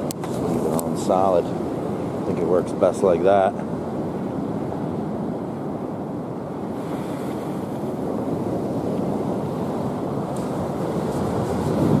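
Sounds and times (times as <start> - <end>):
surf rushing: 0.0 - 12.0
wind buffeting microphone: 0.0 - 12.0.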